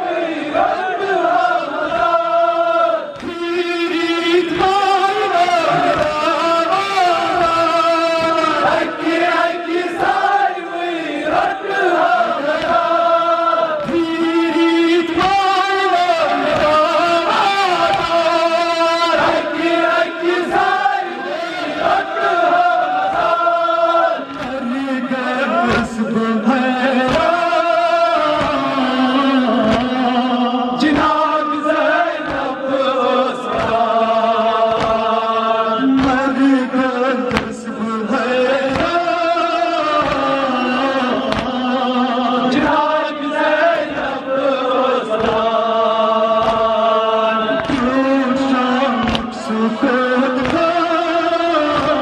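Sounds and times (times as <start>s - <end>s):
man chanting through microphone: 0.0s - 52.0s.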